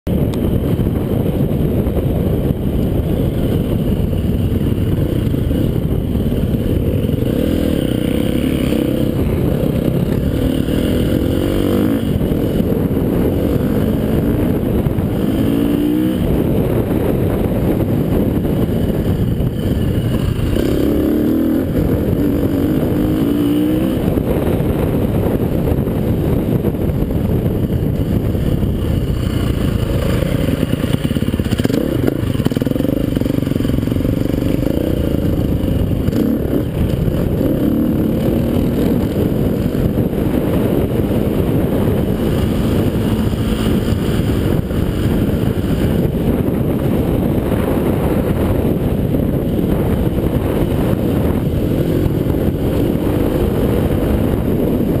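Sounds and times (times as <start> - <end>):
wind rush on microphone: 0.0 - 55.0
motorbike engine revving under load: 1.9 - 55.0.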